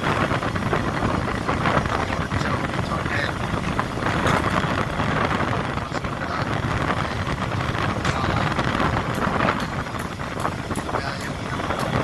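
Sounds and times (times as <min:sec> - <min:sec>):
fishing boat engine rumbling: 0:00.0 - 0:12.0
wind on microphone: 0:00.0 - 0:12.0.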